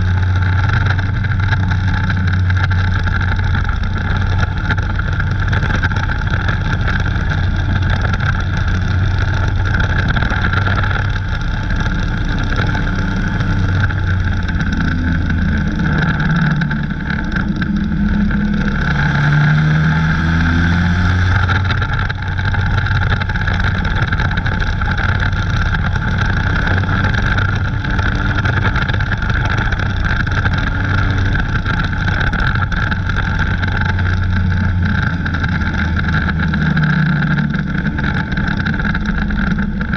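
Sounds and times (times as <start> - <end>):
race car engine droning: 0.0 - 39.9.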